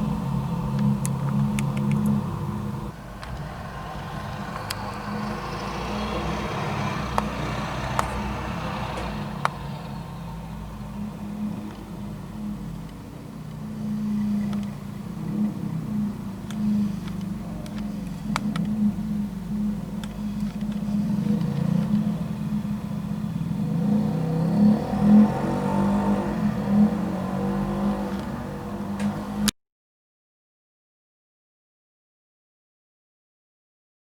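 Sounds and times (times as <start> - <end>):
engine running and revving: 0.0 - 29.5.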